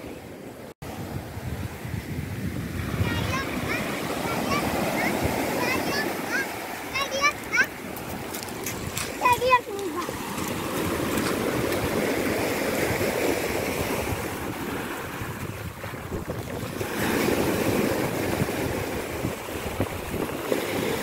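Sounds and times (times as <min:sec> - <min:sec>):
waves washing over pebbles: 0:02.7 - 0:21.0.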